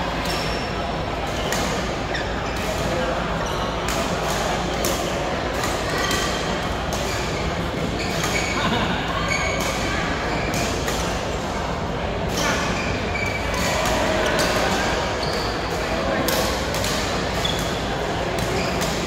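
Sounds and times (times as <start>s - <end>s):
players' voices: 0.0s - 19.0s.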